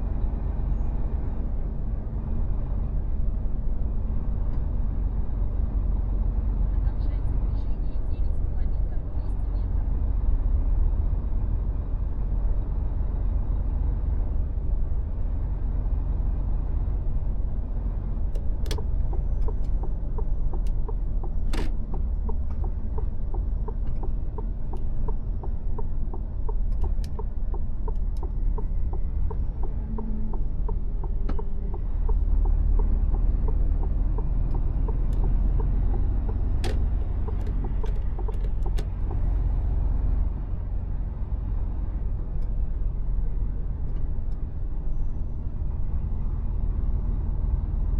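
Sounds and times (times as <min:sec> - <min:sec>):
road noise: 0:00.0 - 0:47.9
truck diesel engine rumble: 0:00.0 - 0:47.9.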